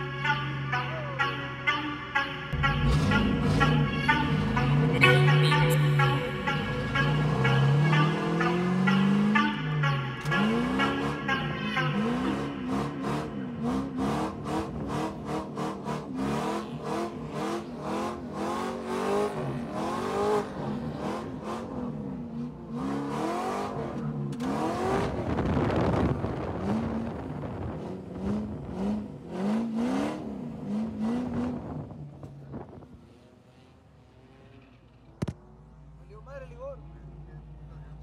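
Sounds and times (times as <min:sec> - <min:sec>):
car engine revving: 0:02.6 - 0:36.0.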